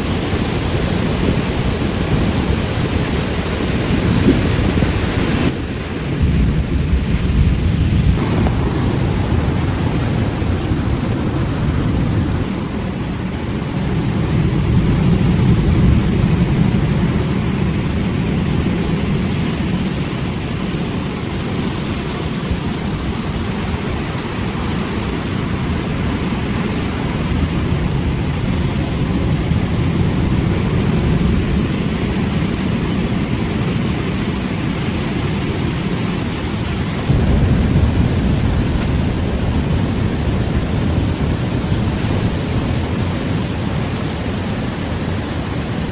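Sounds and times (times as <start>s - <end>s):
ocean surf breaking: 0.0s - 45.9s.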